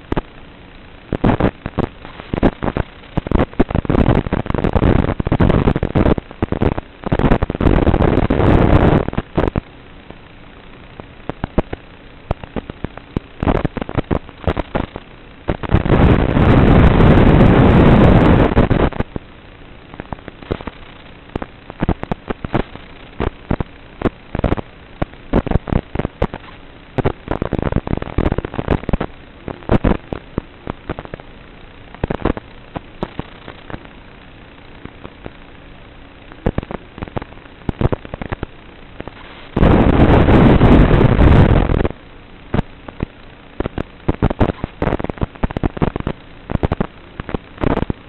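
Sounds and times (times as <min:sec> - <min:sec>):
radio static with pops: 0:00.0 - 0:48.0.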